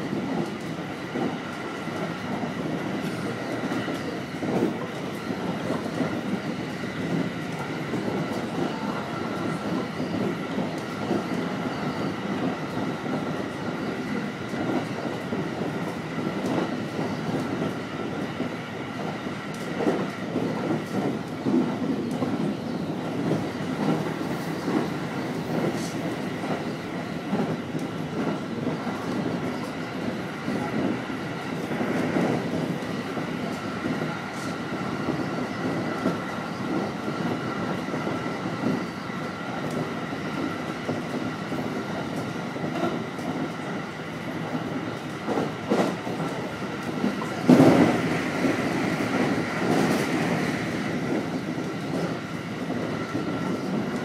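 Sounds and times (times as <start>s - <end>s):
train wheels clattering: 0.0s - 54.0s.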